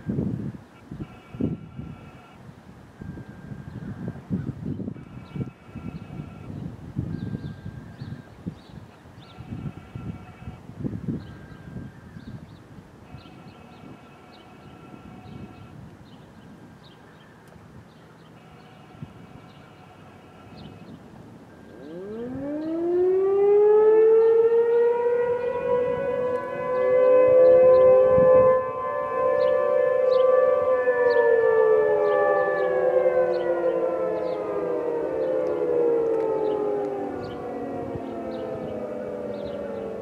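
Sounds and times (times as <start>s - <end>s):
distant warning siren: 0.0s - 12.4s, 13.0s - 15.9s, 18.3s - 40.0s.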